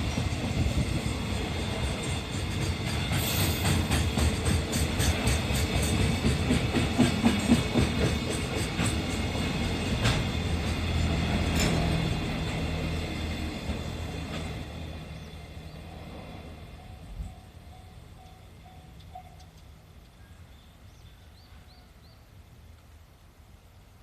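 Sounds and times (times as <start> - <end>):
freight train wagons rolling: 0.0 - 19.6.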